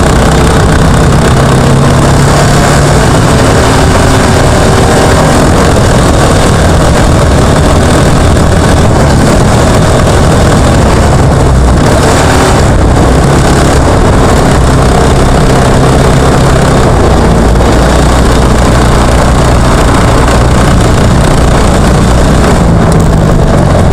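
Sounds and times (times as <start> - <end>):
distorted kart engine running: 0.0 - 23.9
kart rumbling over dirt track: 0.0 - 23.9.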